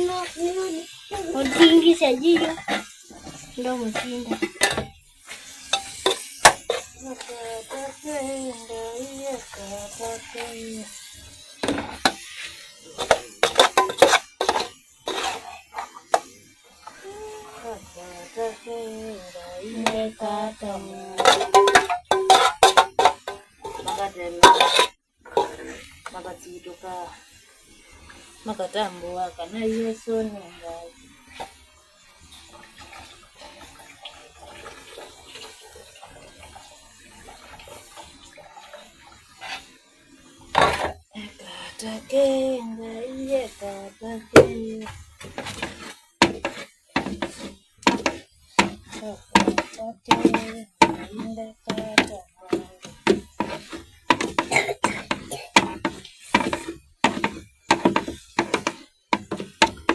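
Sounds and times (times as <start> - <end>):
water: 0.0 - 59.9.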